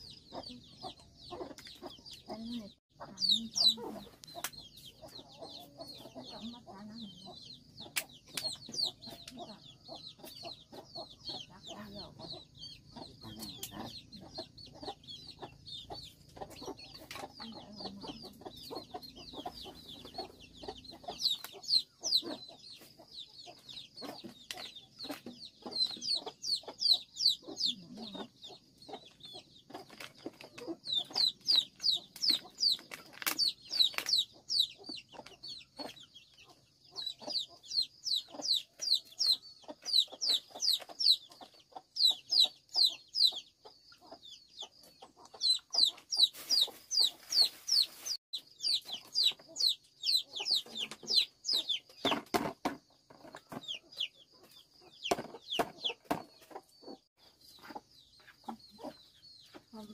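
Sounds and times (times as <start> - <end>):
chicks cheeping: 0.0 - 59.9.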